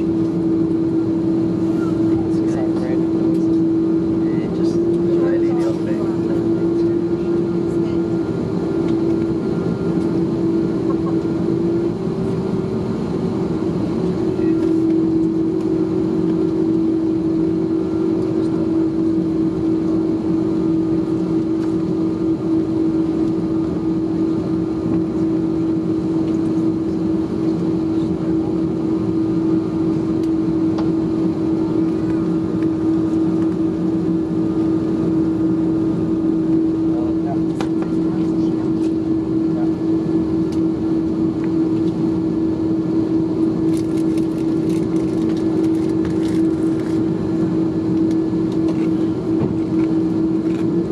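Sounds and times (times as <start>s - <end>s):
airplane cabin drone: 0.0s - 50.9s.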